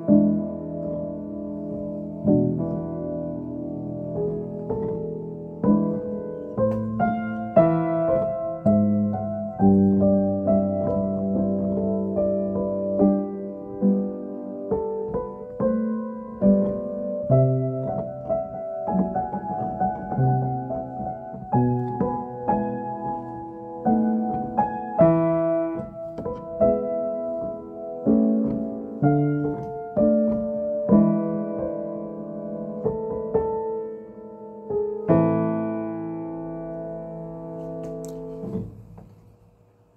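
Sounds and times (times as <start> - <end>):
slow solo piano piece: 0.0 - 39.9.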